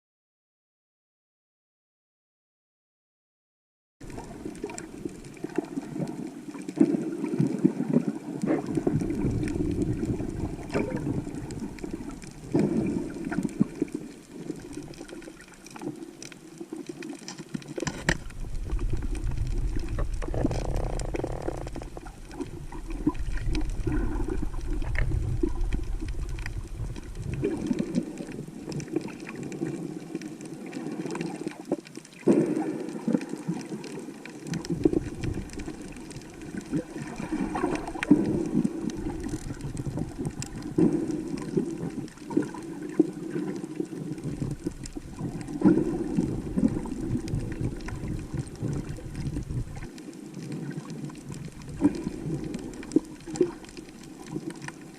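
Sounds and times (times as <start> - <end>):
water sloshing and gurgling: 4.0 - 54.9.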